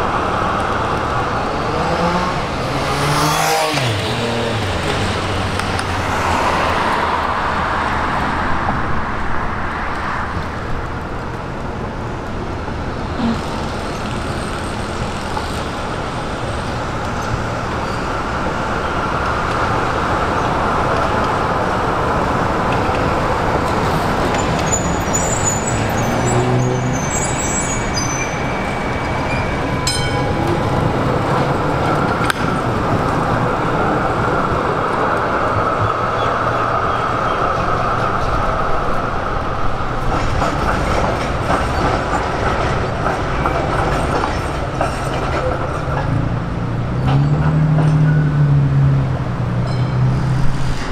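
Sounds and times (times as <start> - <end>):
road traffic passing: 0.0 - 50.9
trams running on rails: 0.0 - 50.9.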